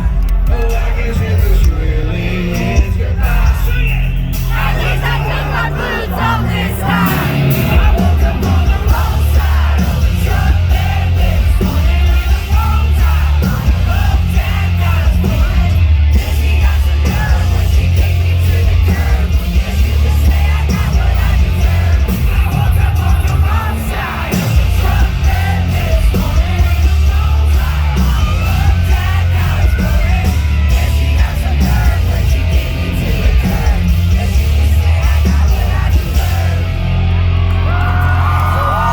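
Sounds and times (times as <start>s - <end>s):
country-rock band music: 0.0s - 38.9s
shouted vocals: 0.0s - 38.9s.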